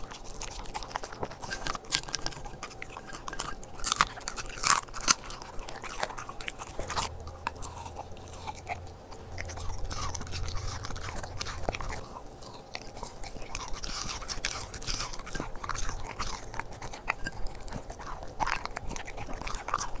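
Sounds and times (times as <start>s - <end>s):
dog chewing food: 0.0s - 20.0s.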